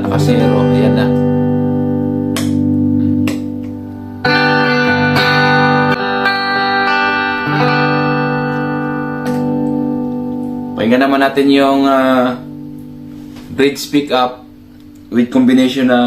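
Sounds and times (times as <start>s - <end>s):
clean electric guitar chords strummed: 0.0s - 15.4s.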